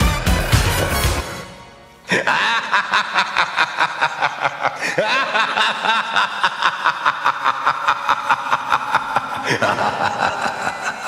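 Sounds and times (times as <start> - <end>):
cackling laughter: 2.1 - 11.0.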